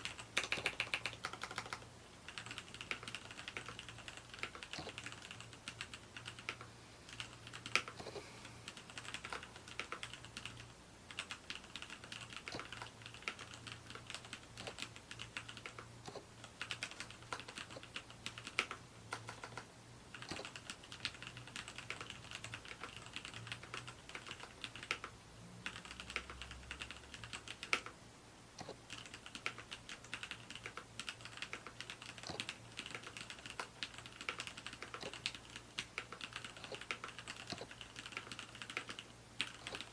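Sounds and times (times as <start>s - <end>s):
mechanical keyboard typing: 0.0s - 8.1s, 8.7s - 28.0s, 28.6s - 39.9s
faint low hum: 0.0s - 39.9s.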